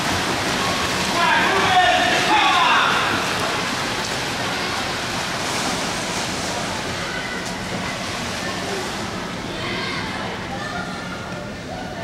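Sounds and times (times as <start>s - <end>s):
crowd voices: 0.0s - 12.0s
swimmers splashing: 0.0s - 12.0s.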